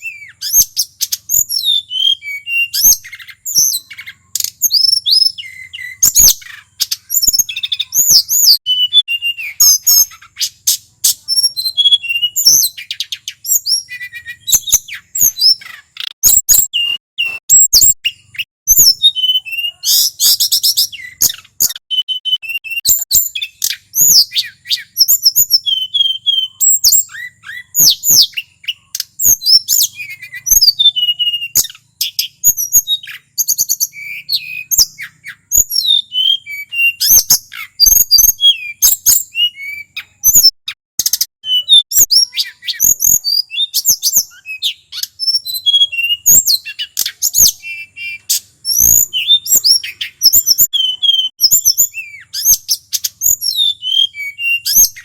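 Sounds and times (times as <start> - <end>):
bird singing whistled trills: 0.0 - 55.0.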